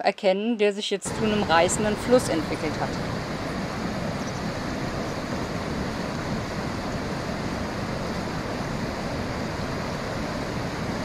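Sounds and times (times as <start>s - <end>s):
water rushing over weir: 1.1s - 11.0s.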